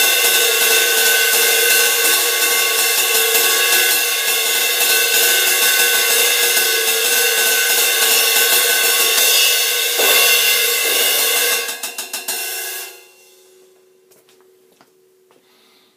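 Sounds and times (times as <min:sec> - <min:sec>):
cymbal struck with sticks: 0:00.0 - 0:13.7
heavy cymbal crash: 0:00.0 - 0:13.7.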